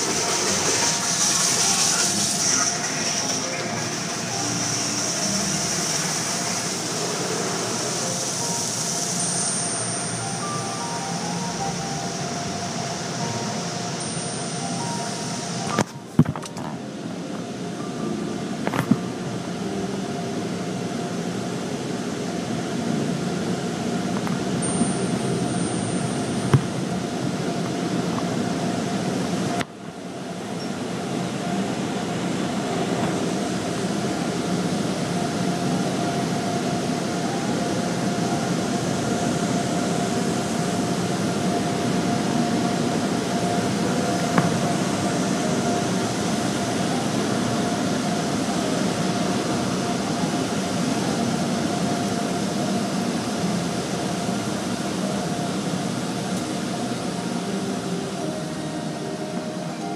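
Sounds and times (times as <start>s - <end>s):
car wash machinery noise: 0.0s - 59.9s.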